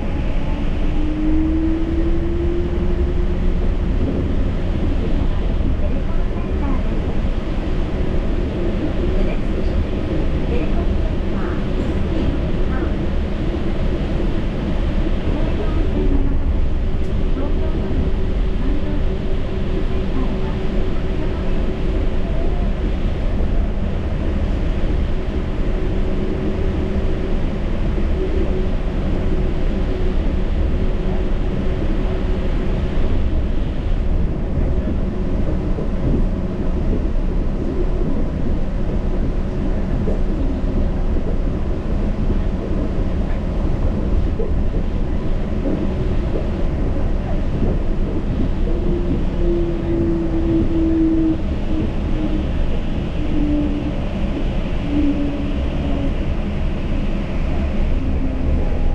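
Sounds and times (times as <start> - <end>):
train rumbling on guideway: 0.0 - 58.9.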